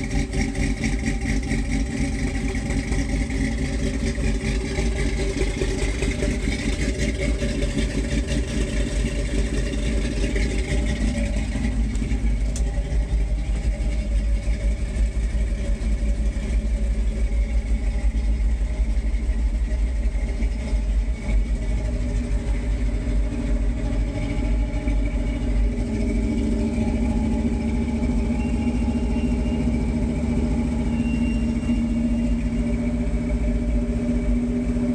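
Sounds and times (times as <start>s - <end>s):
vee-eight engine idling: 0.0s - 34.9s.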